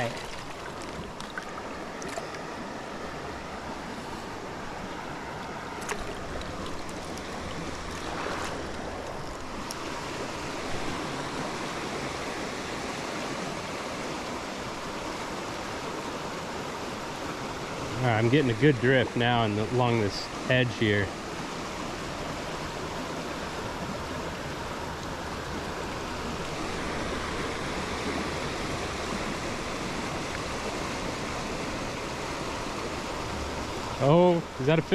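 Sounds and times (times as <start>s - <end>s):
stream water running: 0.0s - 34.9s.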